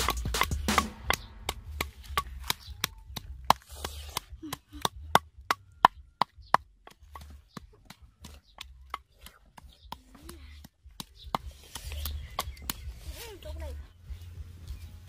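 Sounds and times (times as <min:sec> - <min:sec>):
pestle pounding in mortar: 0:00.0 - 0:12.9.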